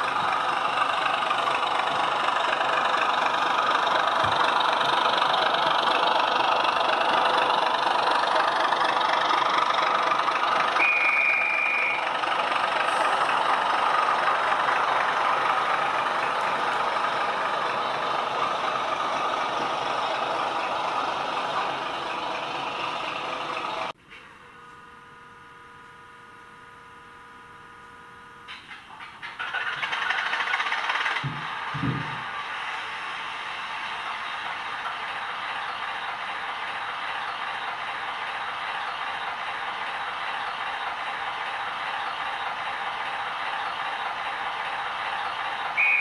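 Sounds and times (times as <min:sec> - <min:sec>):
model train wheels rattling on rails: 0:00.0 - 0:23.9, 0:28.5 - 0:45.8
tinny diesel engine idle: 0:00.0 - 0:46.0.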